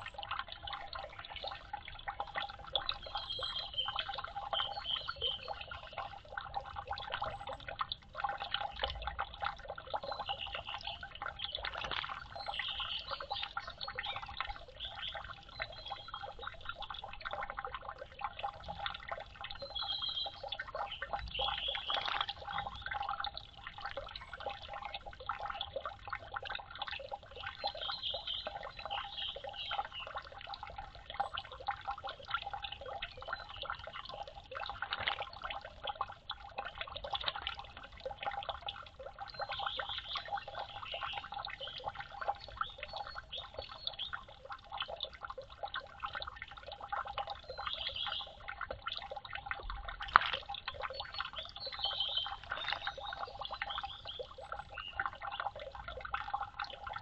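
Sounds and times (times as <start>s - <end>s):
water trickling and dripping: 0.0s - 57.0s.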